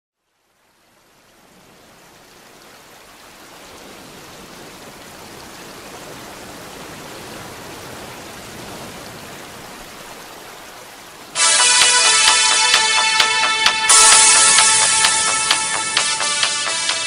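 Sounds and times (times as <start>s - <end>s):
water washing and splashing: 1.4s - 17.0s.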